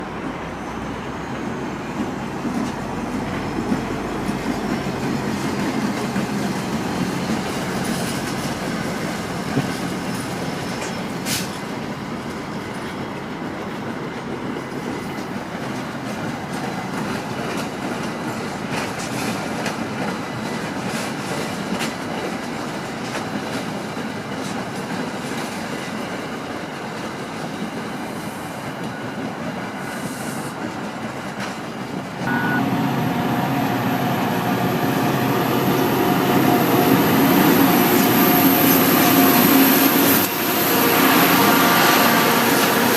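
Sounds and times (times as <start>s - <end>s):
train rolling rumble: 0.0s - 42.9s.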